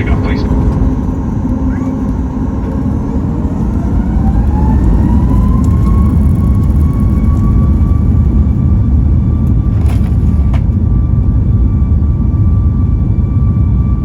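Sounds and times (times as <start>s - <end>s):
jet engines spooling up: 0.0s - 11.4s.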